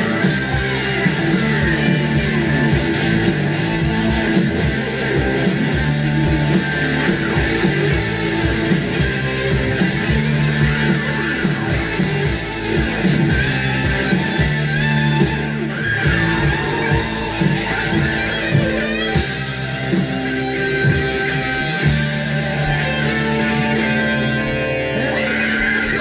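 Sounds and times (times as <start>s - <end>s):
rock music with guitar: 0.0s - 26.0s.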